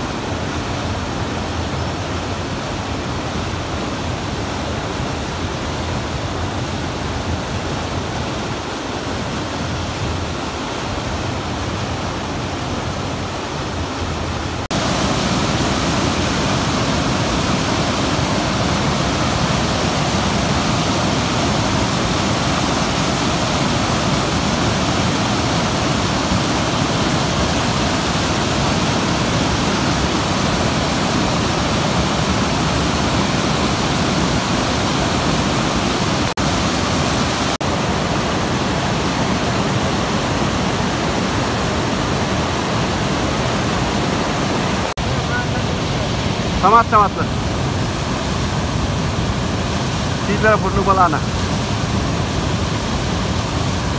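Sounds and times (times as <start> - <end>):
water rushing over boulders: 0.0 - 53.9.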